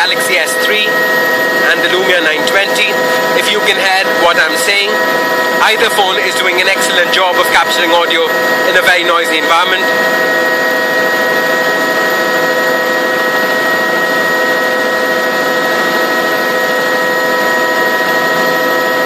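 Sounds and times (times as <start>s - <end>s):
helicopter engine and gearbox whine: 0.0s - 19.0s.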